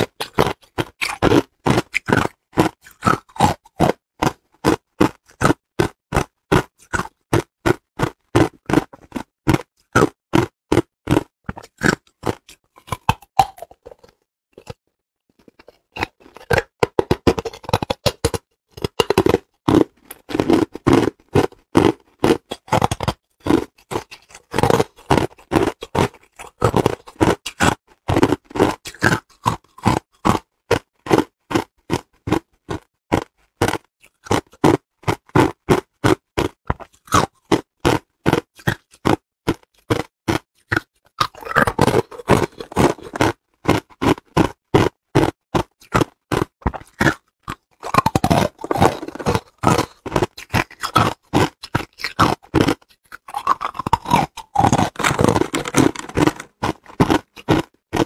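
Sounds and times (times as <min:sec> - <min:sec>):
ice being crunched by chewing: 0:00.0 - 0:58.0.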